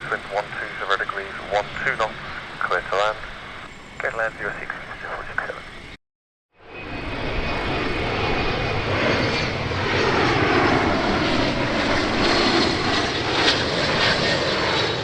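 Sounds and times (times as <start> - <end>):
jet engines roaring: 0.0 - 6.0, 6.6 - 15.0.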